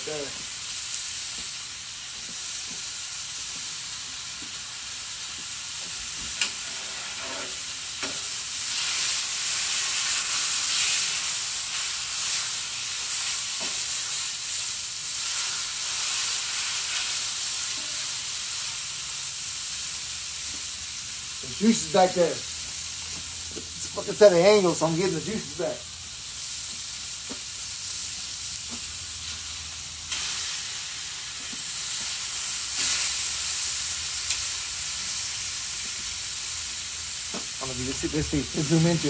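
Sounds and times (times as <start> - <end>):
steaks sizzling on griddle: 0.0 - 39.0.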